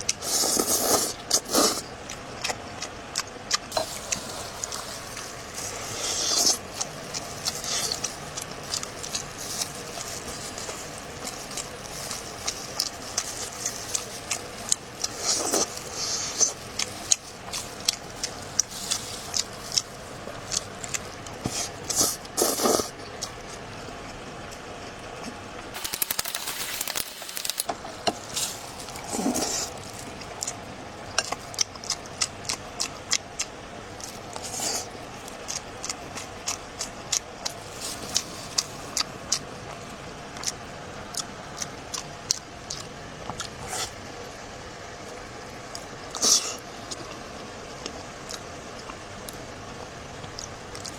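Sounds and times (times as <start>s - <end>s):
chewing with mouth clicks: 0.1s - 24.6s, 28.9s - 44.0s, 45.7s - 49.5s, 50.2s - 50.9s.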